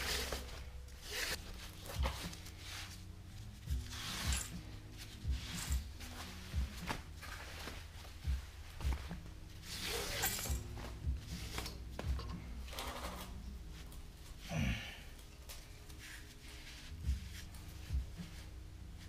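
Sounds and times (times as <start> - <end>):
exhaust wrap rustling and scraping: 0.0 - 14.5, 15.3 - 19.0
faint background music: 0.0 - 19.0.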